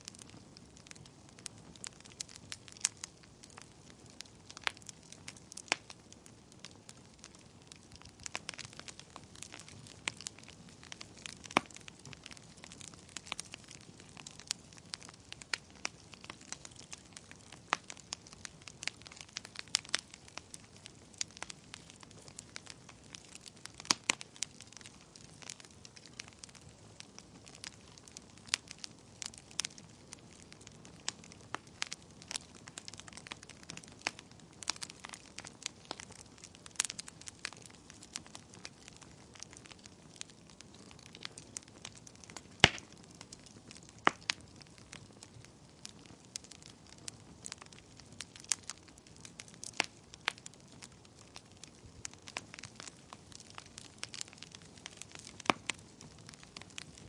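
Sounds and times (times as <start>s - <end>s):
faint steady hiss: 0.0s - 57.0s
wood fire crackling and popping: 0.0s - 57.0s.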